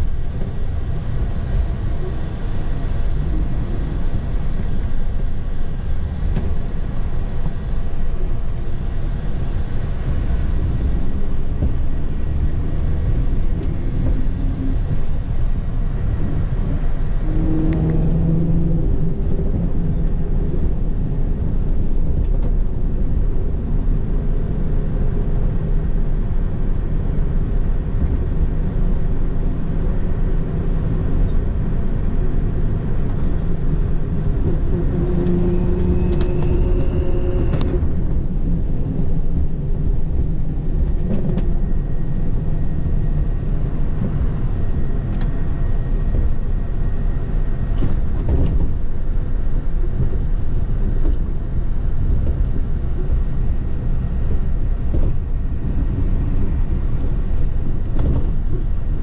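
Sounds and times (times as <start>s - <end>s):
bus engine running: 0.0s - 59.0s
tyre road rumble: 0.0s - 59.0s.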